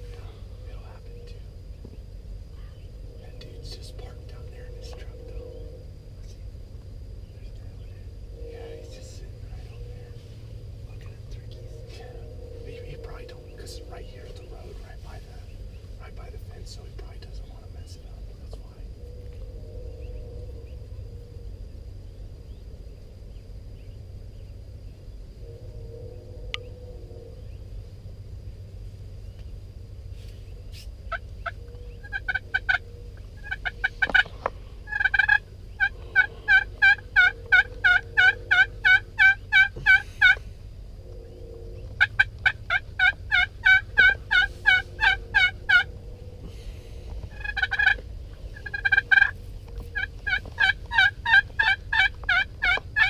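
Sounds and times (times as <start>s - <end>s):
wild turkeys calling: 0.0s - 6.4s, 7.2s - 21.1s, 30.2s - 53.0s.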